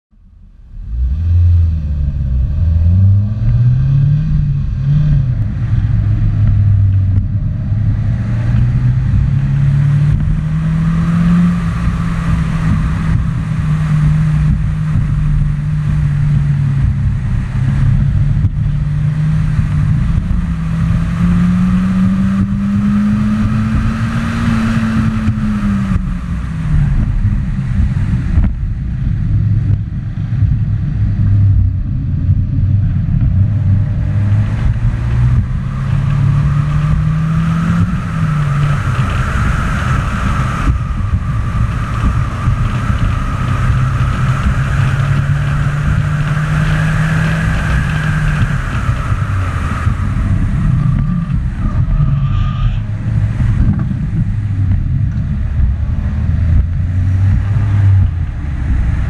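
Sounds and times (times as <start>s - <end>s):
car engine accelerating: 0.1s - 59.0s
wind noise: 0.7s - 59.0s.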